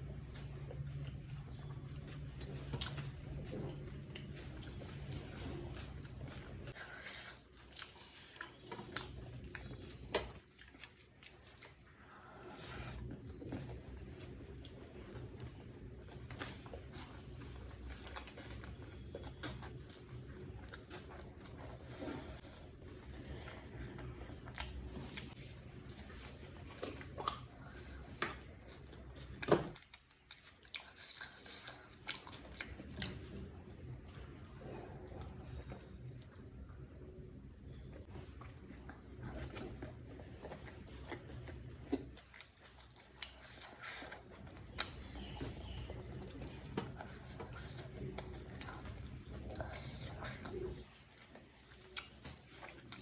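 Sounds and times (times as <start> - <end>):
close chewing mouth sounds: 0.0 - 53.0.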